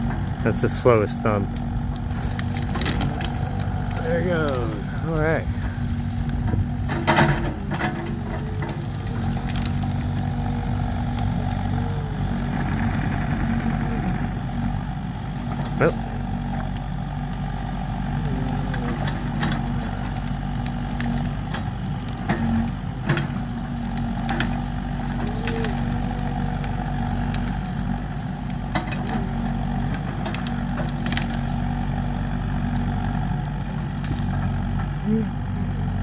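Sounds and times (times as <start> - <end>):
burning tree popping and cracking: 0.0 - 36.0
diesel engine running: 0.0 - 36.0.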